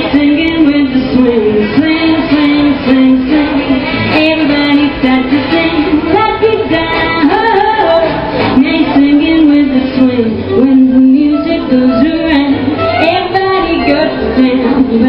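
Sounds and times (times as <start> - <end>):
backing music through loudspeaker: 0.0 - 15.0
woman singing into microphone: 0.0 - 15.0.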